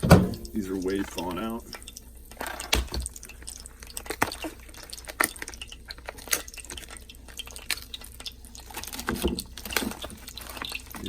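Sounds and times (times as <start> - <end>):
oil popping and crackling: 0.0 - 11.0
chicken sizzling in oil: 0.4 - 11.0.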